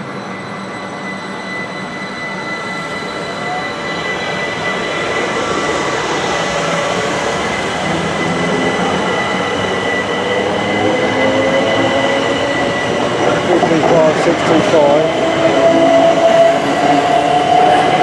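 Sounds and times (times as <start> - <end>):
lower whine rising in pitch: 0.0 - 18.0
steady high whine: 0.0 - 18.0
train running on track: 0.0 - 18.0.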